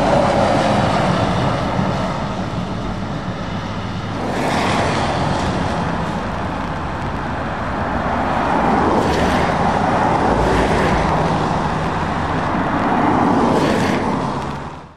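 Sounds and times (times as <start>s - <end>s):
tyres hissing on wet road: 0.0s - 14.9s
vehicle engines humming: 0.0s - 14.9s.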